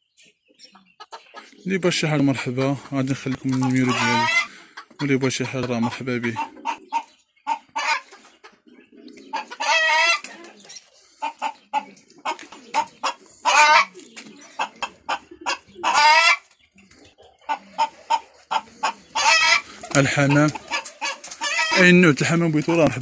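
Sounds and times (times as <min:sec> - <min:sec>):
chickens clucking: 0:00.0 - 0:23.0
chicken wavering calls: 0:00.1 - 0:23.0.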